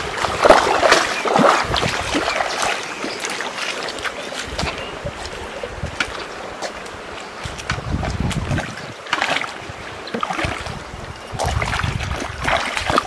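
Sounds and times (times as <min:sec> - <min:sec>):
feet splashing through stream water: 0:00.0 - 0:13.0.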